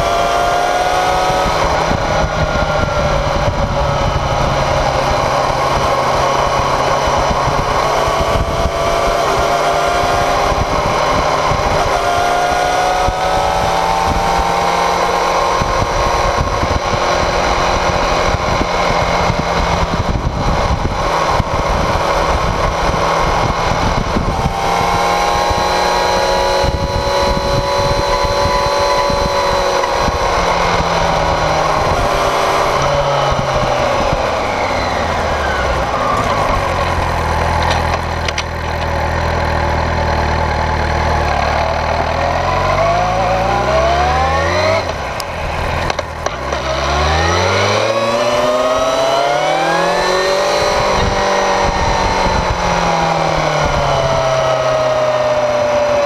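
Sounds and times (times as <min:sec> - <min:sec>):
motorcycle engine: 0:00.0 - 0:56.0
tyre and wind noise: 0:00.0 - 0:56.0.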